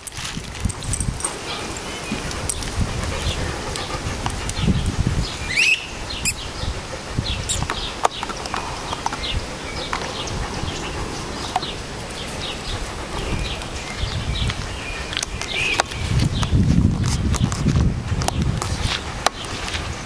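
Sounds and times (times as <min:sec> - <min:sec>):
dogs playing with rumbling bumps: 0:00.0 - 0:20.0.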